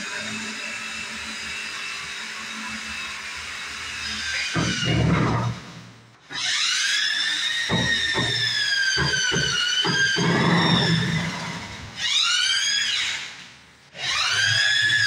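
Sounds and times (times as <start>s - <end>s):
electric drill whine: 0.0s - 13.4s, 14.0s - 15.0s.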